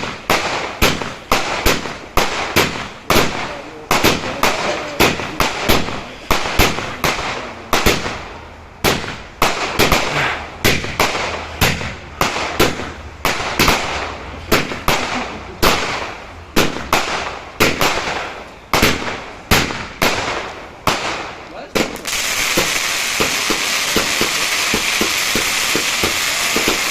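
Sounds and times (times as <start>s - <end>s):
fireworks bangs: 0.0s - 26.9s.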